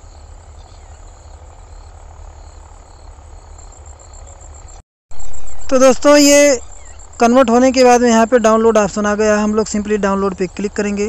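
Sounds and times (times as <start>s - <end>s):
crickets chirping: 0.0s - 11.0s
low hum: 0.0s - 11.0s
microphone hiss: 0.0s - 11.0s.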